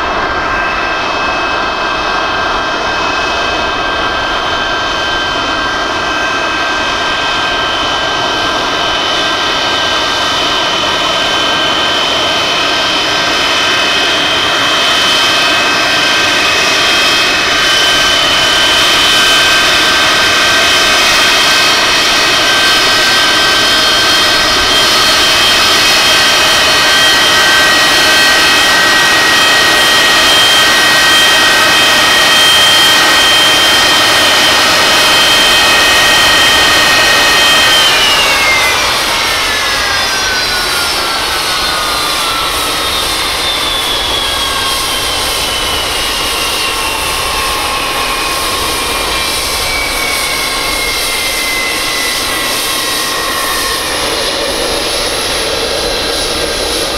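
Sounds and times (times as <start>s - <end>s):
jet engines idling: 0.0s - 56.9s.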